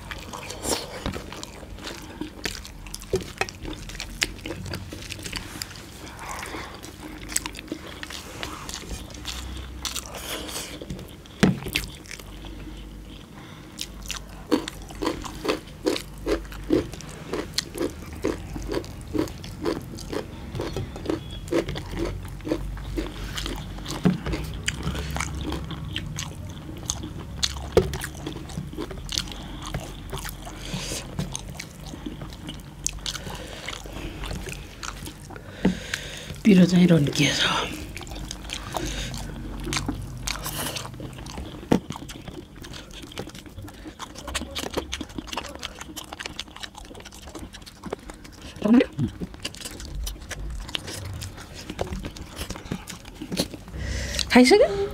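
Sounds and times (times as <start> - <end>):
chewing and mouth smacking: 0.0 - 54.9.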